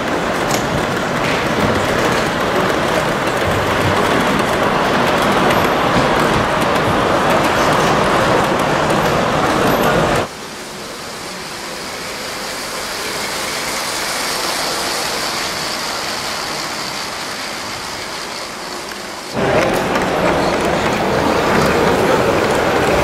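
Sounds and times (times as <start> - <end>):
toy trains whirring on plastic track: 0.0 - 8.8, 9.7 - 23.0
model locomotive rumbling on metal track: 0.0 - 23.0.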